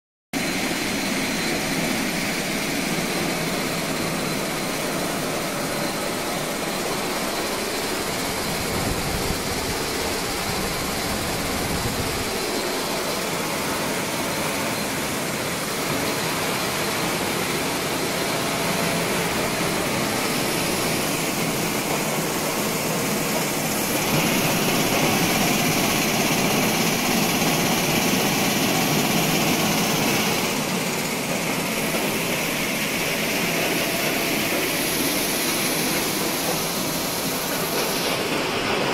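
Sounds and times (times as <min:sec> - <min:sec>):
hulling machine mechanical hiss: 0:00.4 - 0:38.9.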